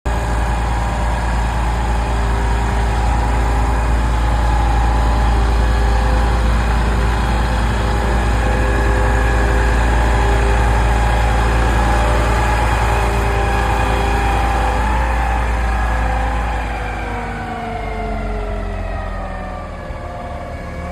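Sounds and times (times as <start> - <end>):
diesel engine rumbling: 0.0 - 20.9
steady whine: 0.1 - 19.8.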